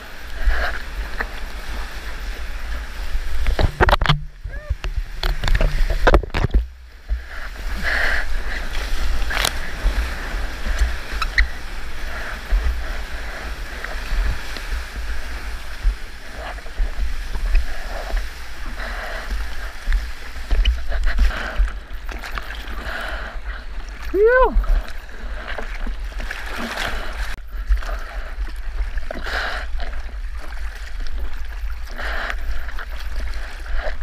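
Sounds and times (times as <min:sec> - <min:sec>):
wind buffeting microphone: 0:00.0 - 0:27.6
water rushing and splashing: 0:00.0 - 0:34.0.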